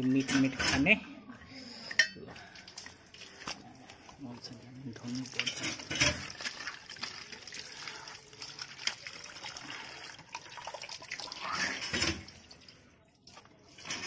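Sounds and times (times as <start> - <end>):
water splashing into steel bowl: 2.4 - 14.0.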